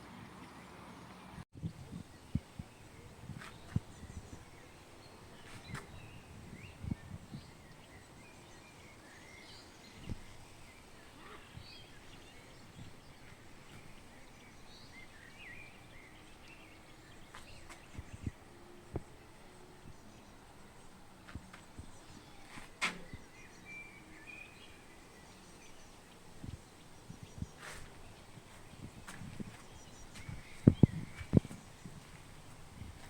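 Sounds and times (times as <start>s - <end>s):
outdoor background noise: 0.0s - 33.0s
small birds chirping: 0.0s - 33.0s.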